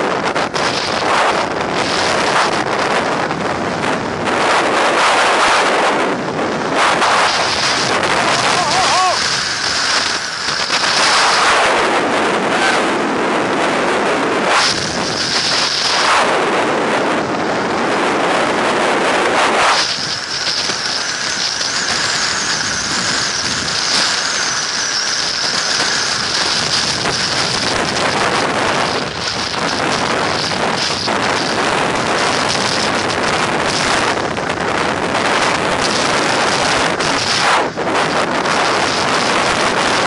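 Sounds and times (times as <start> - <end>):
strong wind gusts on microphone: 0.0 - 40.0.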